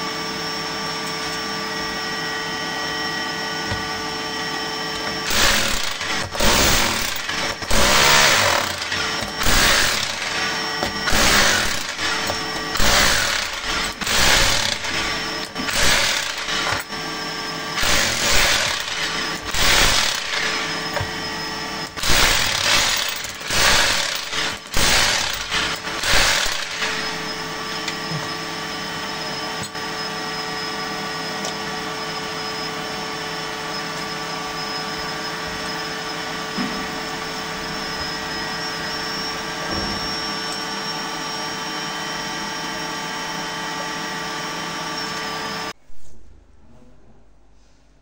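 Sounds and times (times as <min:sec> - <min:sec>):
motor hum with high whine: 0:00.0 - 0:45.8.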